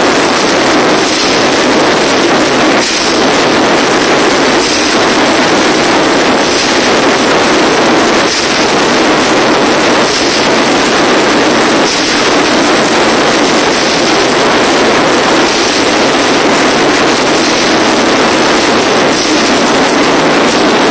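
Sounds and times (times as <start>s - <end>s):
industrial noise music: 0.0s - 20.9s.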